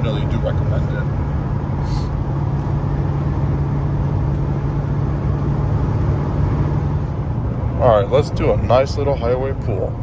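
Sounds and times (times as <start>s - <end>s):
low exhaust hum: 0.0s - 10.0s
road and tyre noise: 0.0s - 10.0s.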